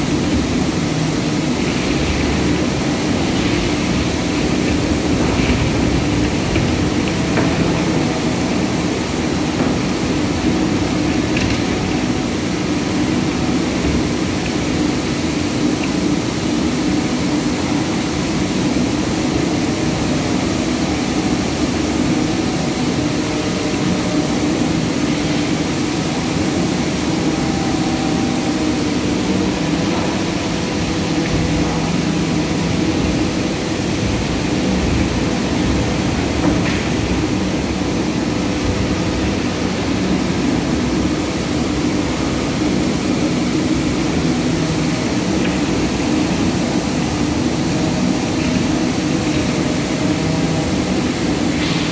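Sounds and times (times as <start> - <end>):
mill machinery running: 0.0 - 51.9.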